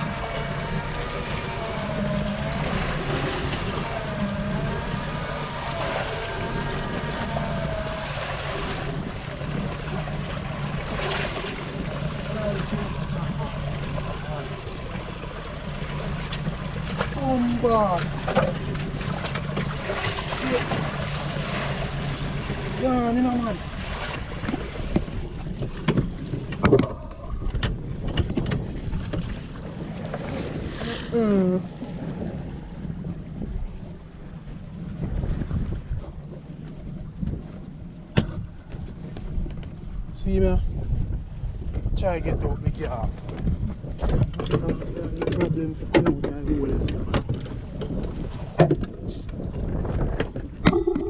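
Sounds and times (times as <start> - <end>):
boat engine running: 0.0 - 51.0
water noise: 0.0 - 51.0
wind: 0.0 - 51.0.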